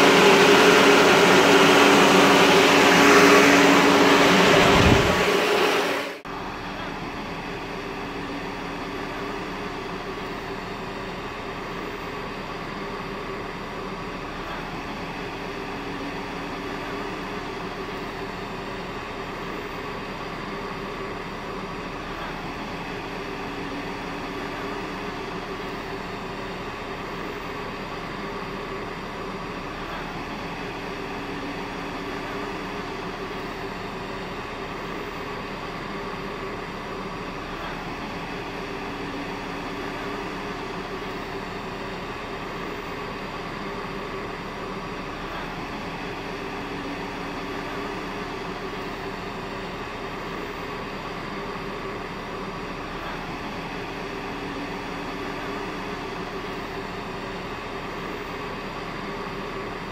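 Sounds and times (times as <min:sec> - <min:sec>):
machinery droning hum: 0:00.0 - 0:59.9.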